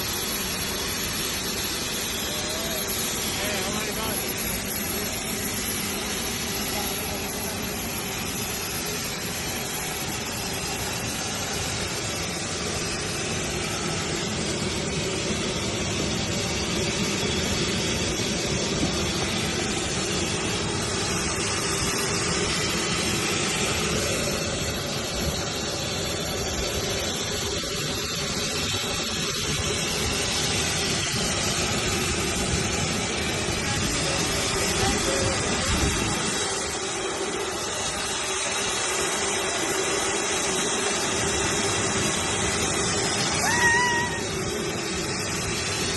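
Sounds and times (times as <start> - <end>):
jet engine and rushing air in cabin: 0.0 - 45.9.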